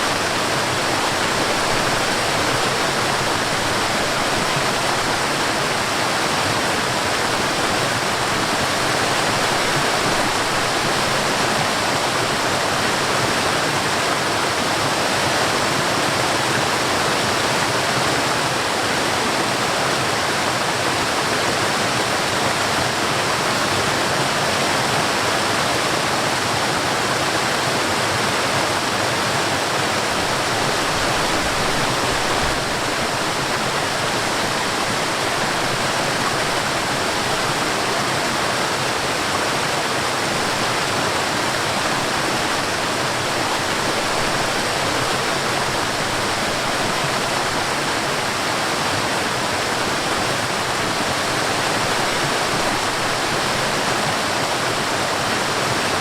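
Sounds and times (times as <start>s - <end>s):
water rushing over waterfall: 0.0s - 56.0s.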